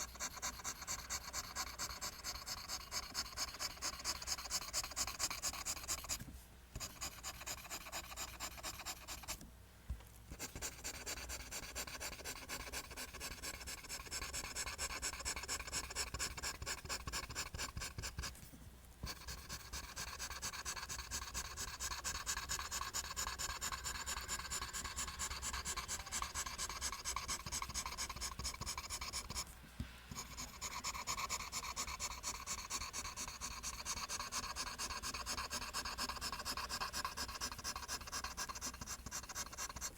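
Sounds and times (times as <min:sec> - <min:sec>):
pencil drawing on paper: 0:00.0 - 0:06.2, 0:06.8 - 0:09.4, 0:10.3 - 0:18.4, 0:19.0 - 0:39.9.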